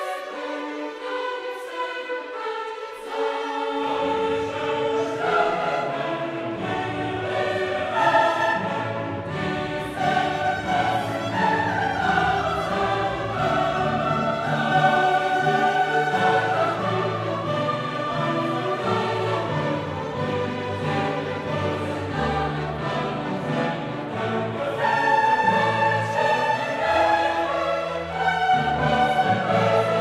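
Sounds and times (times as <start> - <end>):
choir singing held notes: 0.0 - 30.0
orchestral accompaniment: 0.0 - 30.0.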